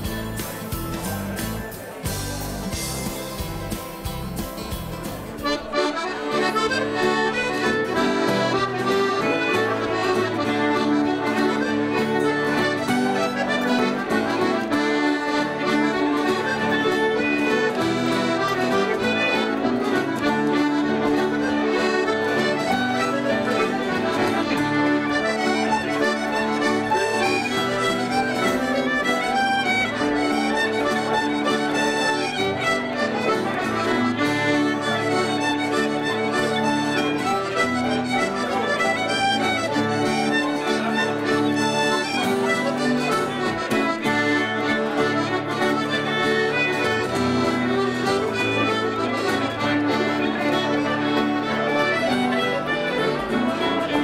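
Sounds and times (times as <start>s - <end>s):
accordions playing a tune: 0.0s - 54.0s
acoustic guitar: 0.0s - 54.0s.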